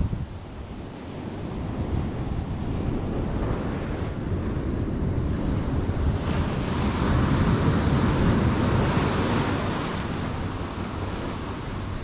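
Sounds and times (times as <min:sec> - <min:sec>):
ocean surf on sand and rocks: 0:00.0 - 0:12.0
wind buffeting microphone: 0:00.0 - 0:12.0.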